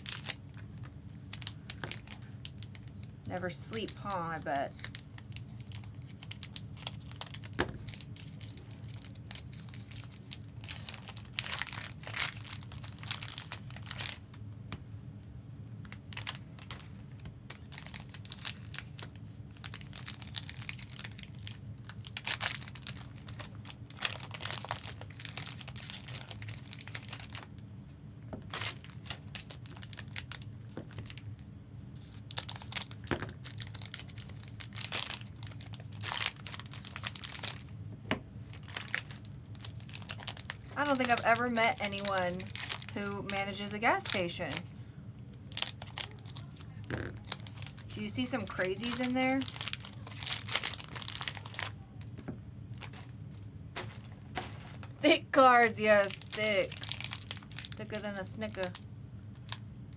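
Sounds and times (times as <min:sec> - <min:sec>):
foil wrappers crinkling and tearing: 0:00.0 - 0:14.4, 0:15.8 - 0:27.6, 0:28.5 - 0:31.4, 0:32.0 - 0:37.8, 0:38.4 - 0:44.7, 0:45.5 - 0:59.6
steady low hum: 0:00.0 - 0:59.9.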